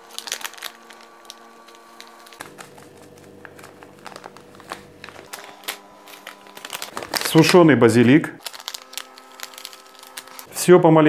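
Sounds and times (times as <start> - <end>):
plastic sachet crinkling: 0.0 - 10.5
faint steady hum: 0.0 - 10.6.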